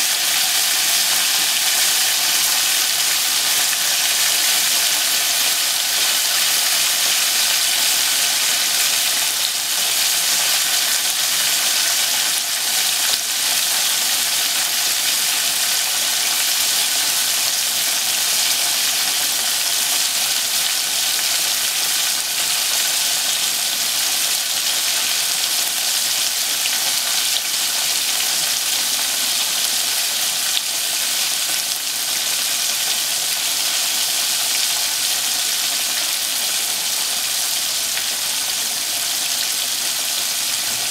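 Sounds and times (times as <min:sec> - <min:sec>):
cutlet deep-frying in oil: 0:00.0 - 0:40.9.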